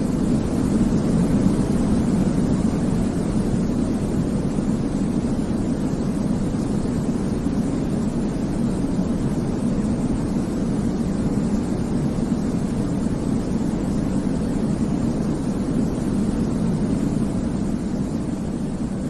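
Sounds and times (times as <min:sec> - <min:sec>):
deep white noise: 0:00.0 - 0:19.0.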